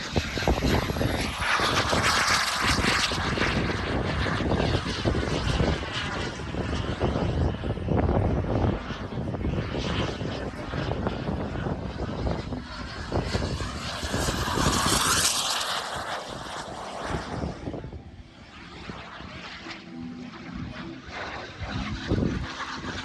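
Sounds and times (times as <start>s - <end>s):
model jet turbine flying past: 0.0s - 23.0s.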